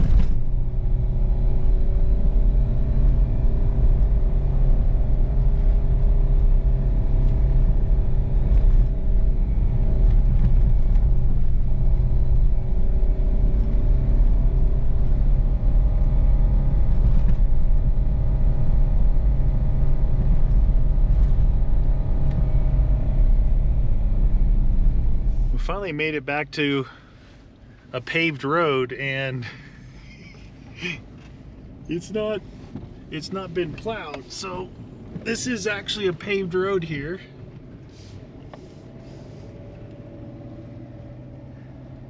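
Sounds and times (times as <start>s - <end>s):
vehicle engine and tyre rumble: 0.0s - 42.0s.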